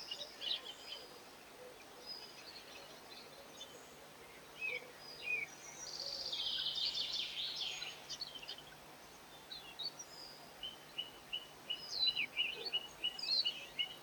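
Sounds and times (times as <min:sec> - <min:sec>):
songbirds chirping and twittering: 0:00.0 - 0:14.0.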